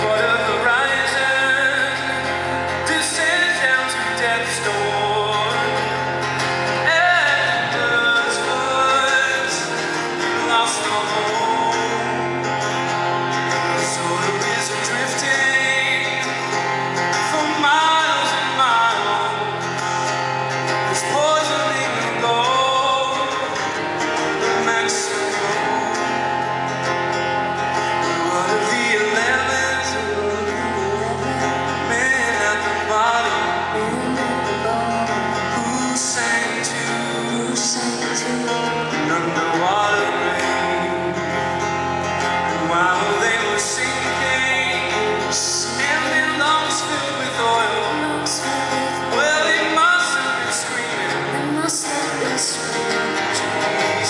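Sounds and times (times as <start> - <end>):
guitar: 0.0 - 54.0
person singing: 0.0 - 54.0.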